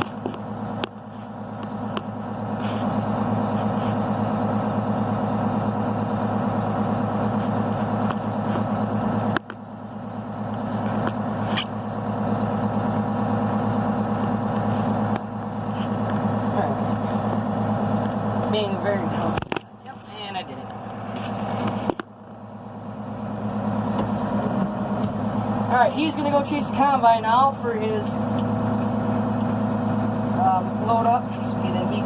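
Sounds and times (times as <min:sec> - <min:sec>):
farm vehicle engine droning: 0:00.0 - 0:32.0.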